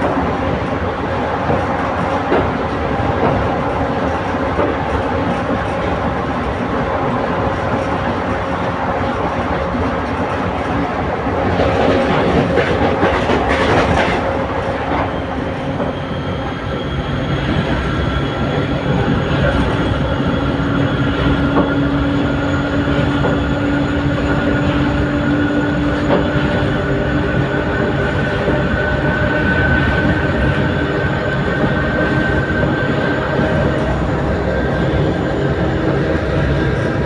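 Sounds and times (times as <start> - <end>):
clickety-clack over rail joints: 0.0 - 37.0
train wheels rumbling on rails: 0.0 - 37.0.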